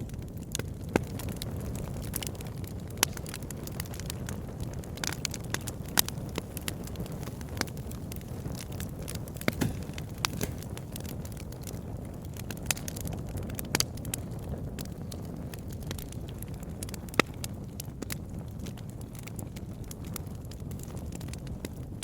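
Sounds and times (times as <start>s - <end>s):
low rumble of flames: 0.0s - 22.0s
wood crackling and popping: 0.0s - 22.0s.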